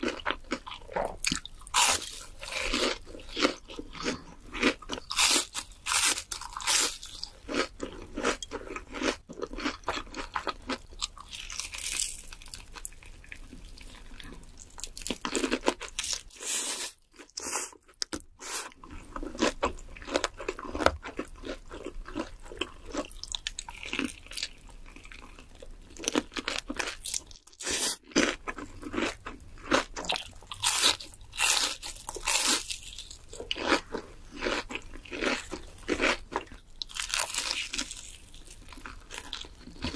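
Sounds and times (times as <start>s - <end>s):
crunching and chewing crispy food: 0.0s - 39.9s.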